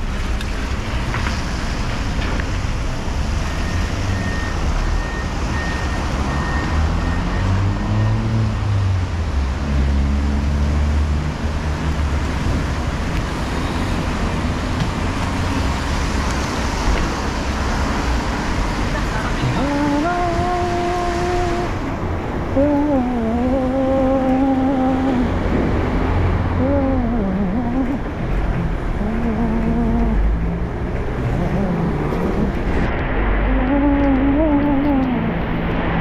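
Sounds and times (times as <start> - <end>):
road traffic: 0.0 - 36.0
vehicle engine passing: 6.7 - 36.0.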